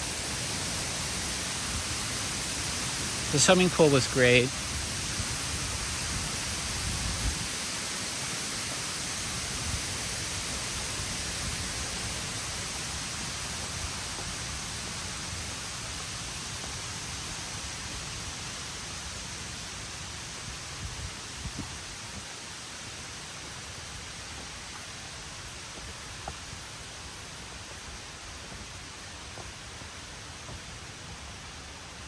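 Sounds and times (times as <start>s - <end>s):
waterfall rushing hiss: 0.0s - 32.0s.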